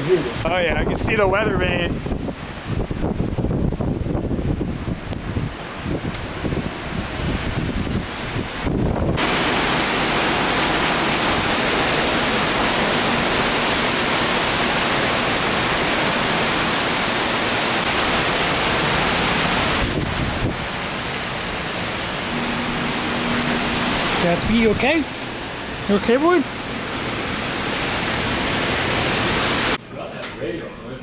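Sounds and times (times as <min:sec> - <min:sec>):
heavy rain: 0:00.0 - 0:29.8
strong wind: 0:00.3 - 0:29.8.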